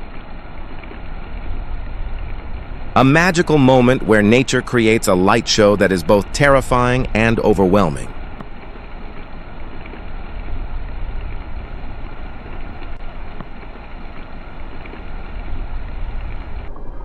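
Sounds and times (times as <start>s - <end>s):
low storm rumble: 0.0s - 17.0s
wind buffeting microphone: 0.0s - 17.0s.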